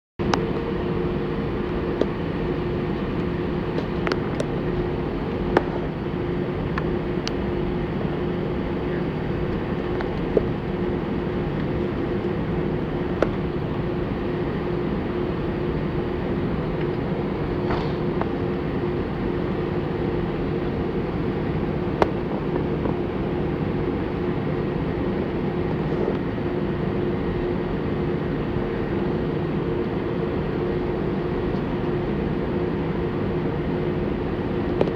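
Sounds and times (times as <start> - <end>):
airplane cabin hum: 0.2 - 34.9.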